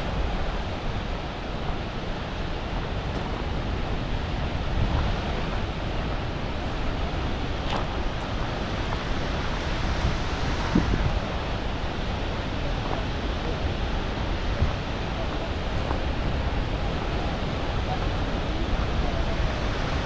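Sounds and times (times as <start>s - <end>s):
waterfall roaring: 0.0s - 20.0s
wind buffeting microphone: 0.0s - 20.0s.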